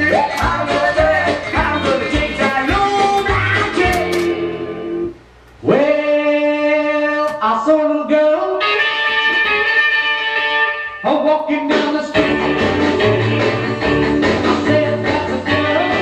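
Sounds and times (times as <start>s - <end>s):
rock and roll song with singing: 0.0s - 16.0s.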